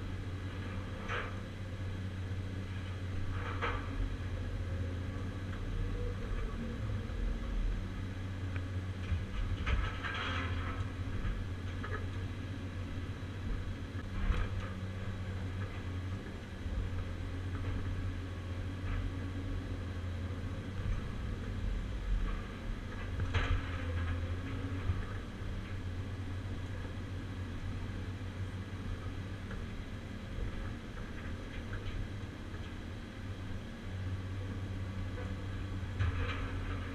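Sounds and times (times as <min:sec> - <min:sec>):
excavator diesel engine and hydraulics: 0:00.0 - 0:36.9.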